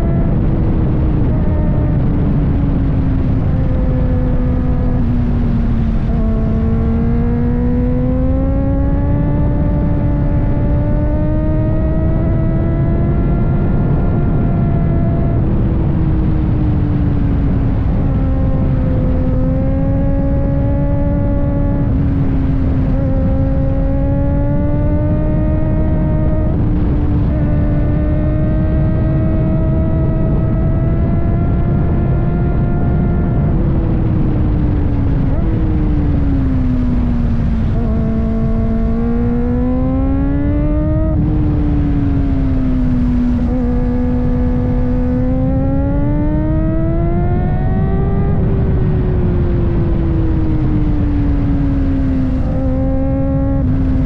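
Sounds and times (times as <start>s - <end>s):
motorcycle engine running: 0.0s - 54.0s
steady rushing noise: 0.0s - 54.0s.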